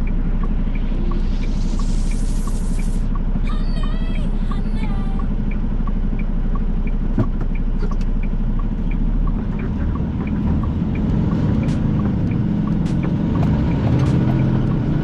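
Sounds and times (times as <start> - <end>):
truck diesel engine running: 0.0 - 15.0
turn signal ticking: 0.0 - 15.0.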